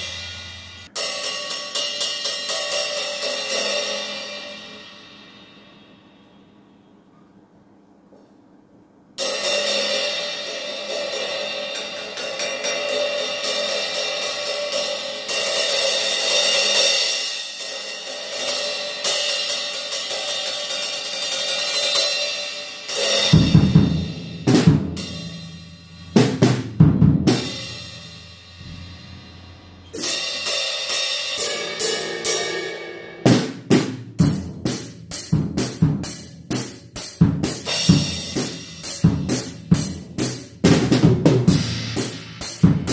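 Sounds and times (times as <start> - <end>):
cymbal crashes: 0.0 - 6.9, 9.2 - 40.6.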